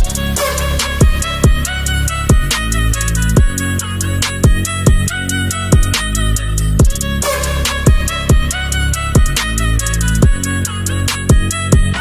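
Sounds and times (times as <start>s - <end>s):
background music with bass drum: 0.0s - 12.0s.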